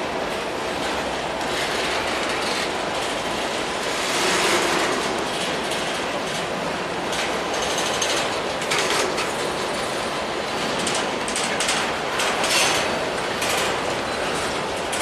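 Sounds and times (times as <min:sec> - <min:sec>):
train rumble: 0:00.0 - 0:15.0
train wheels clacking on rail joints: 0:00.0 - 0:15.0.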